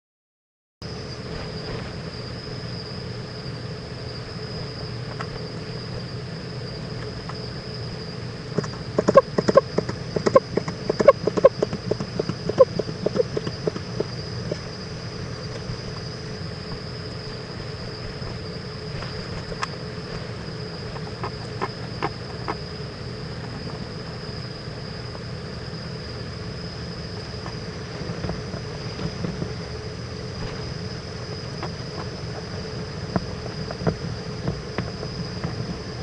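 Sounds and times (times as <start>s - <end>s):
crickets trilling: 0.8s - 36.0s
low hum: 0.9s - 36.0s.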